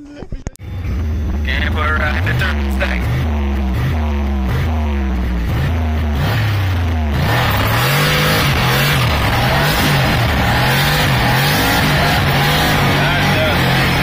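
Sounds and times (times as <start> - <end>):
loud rushing noise: 0.6 - 14.0
car engine revving hard: 0.8 - 14.0.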